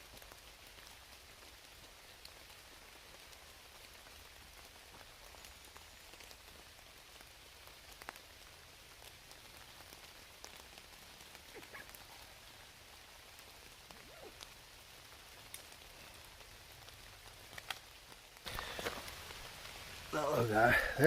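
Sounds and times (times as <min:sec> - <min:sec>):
faint outdoor hiss: 0:00.0 - 0:21.0.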